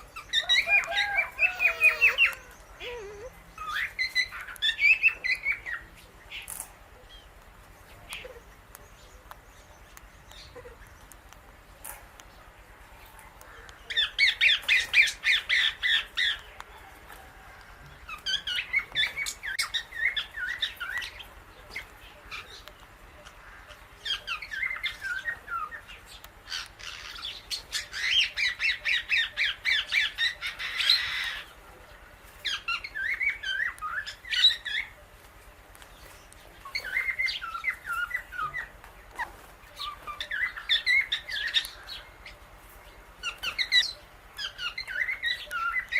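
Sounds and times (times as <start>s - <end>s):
parakeets chattering: 0.0s - 16.9s, 17.6s - 45.9s.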